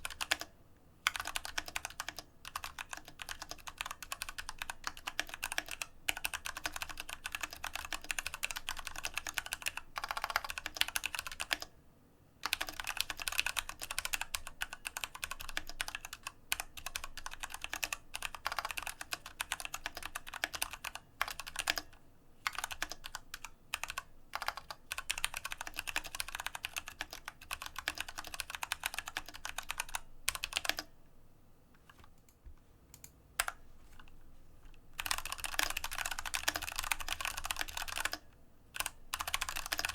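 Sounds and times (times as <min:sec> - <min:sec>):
mechanical keyboard typing: 0:00.0 - 0:11.7, 0:12.4 - 0:30.9, 0:35.0 - 0:39.9.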